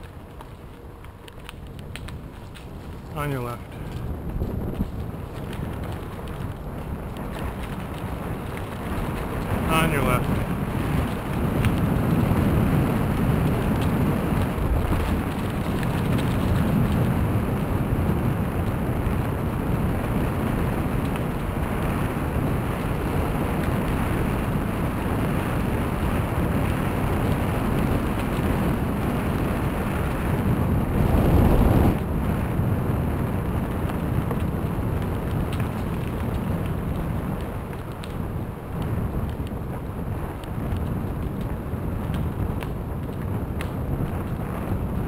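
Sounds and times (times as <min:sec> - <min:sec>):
tyres rolling on gravel: 0:00.0 - 0:45.0
wind rush on microphone: 0:00.0 - 0:45.0.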